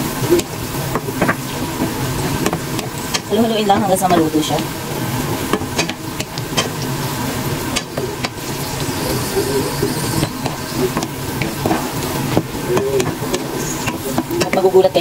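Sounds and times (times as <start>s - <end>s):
peanuts sizzling in hot oil: 0.0s - 15.0s.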